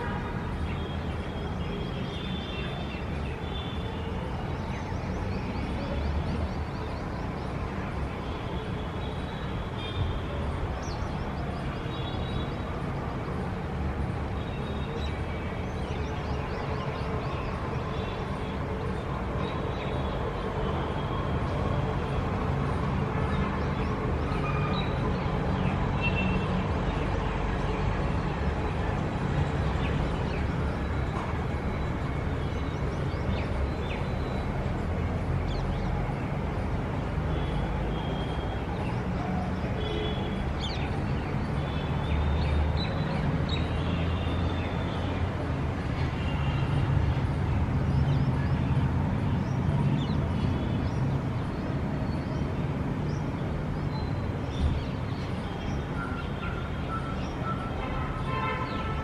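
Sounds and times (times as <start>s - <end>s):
low rumble of traffic: 0.0s - 59.0s.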